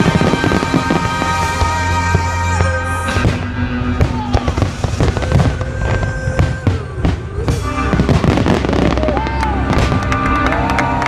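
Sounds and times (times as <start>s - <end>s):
fireworks bangs and crackles: 0.0s - 11.0s
orchestral music: 0.0s - 11.0s.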